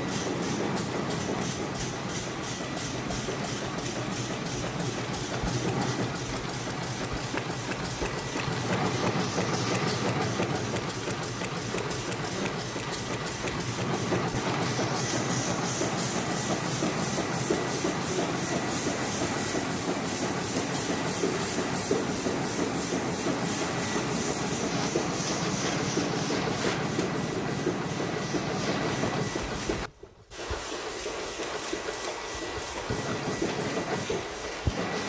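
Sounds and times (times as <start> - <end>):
printing machine clattering: 0.0 - 29.9, 30.6 - 35.0.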